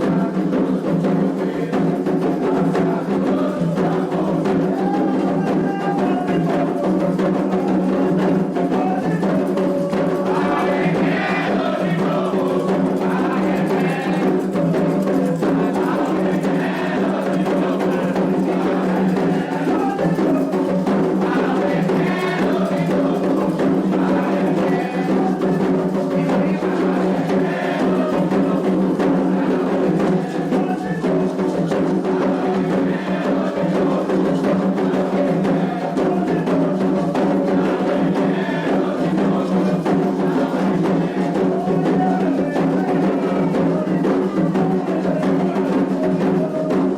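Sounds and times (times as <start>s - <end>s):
group of voices chanting: 0.0s - 46.9s
hand drums playing: 0.0s - 46.9s.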